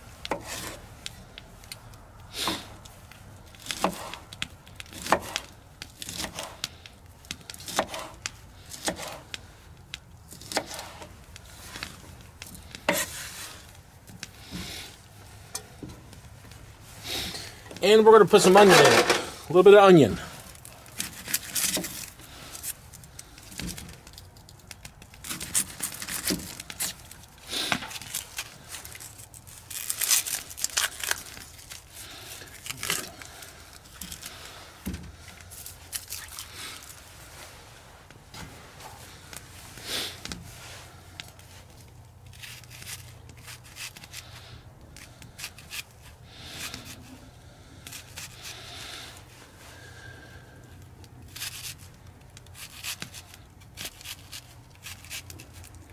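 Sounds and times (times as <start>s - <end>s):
onion skin crackling and tearing: 0.2s - 15.5s, 20.3s - 37.4s, 39.1s - 55.9s.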